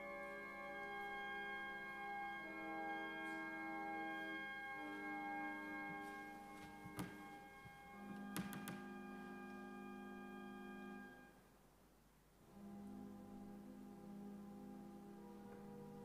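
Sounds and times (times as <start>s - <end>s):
pipe organ playing chords: 0.0s - 11.4s, 12.4s - 16.0s.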